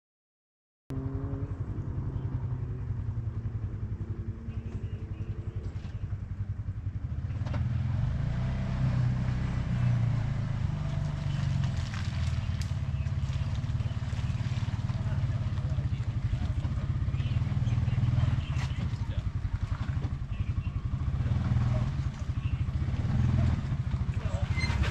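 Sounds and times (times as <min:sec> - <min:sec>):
utv engine running at low revs: 0:00.9 - 0:24.9.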